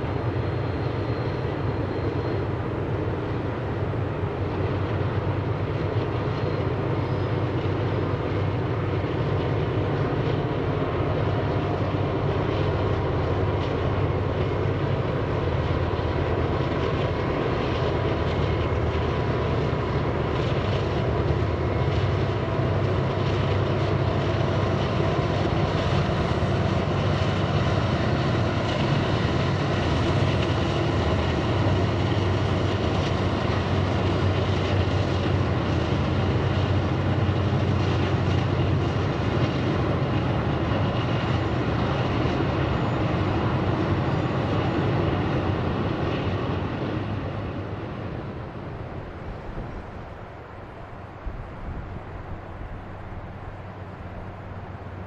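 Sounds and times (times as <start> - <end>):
aircraft engine drone: 0.0 - 55.0.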